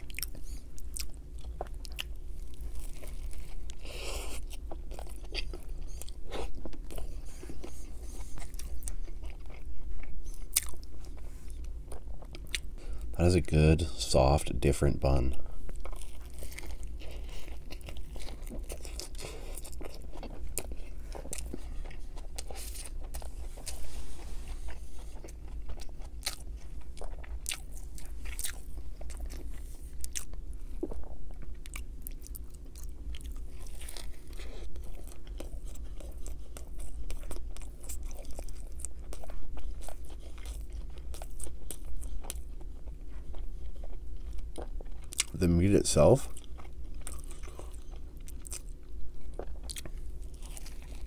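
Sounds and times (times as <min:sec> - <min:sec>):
chewing and biting: 0:00.0 - 0:14.4, 0:15.0 - 0:51.0.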